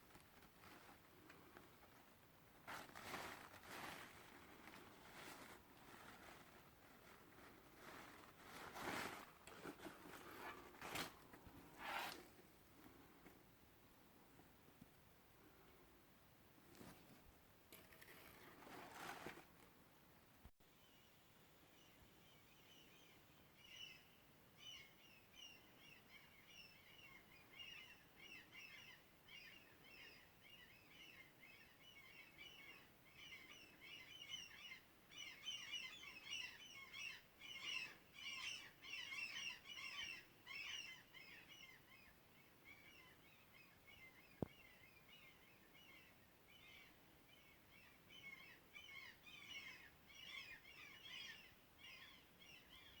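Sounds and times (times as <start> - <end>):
faint birdsong chirps: 0.0 - 53.0.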